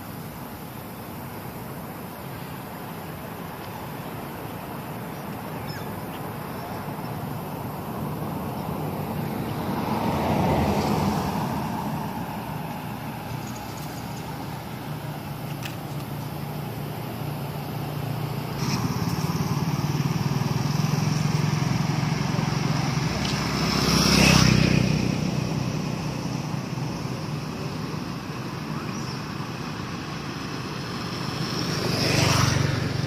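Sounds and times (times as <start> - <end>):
vehicle engine running: 5.1 - 33.0
vehicle passing close by: 6.2 - 33.0.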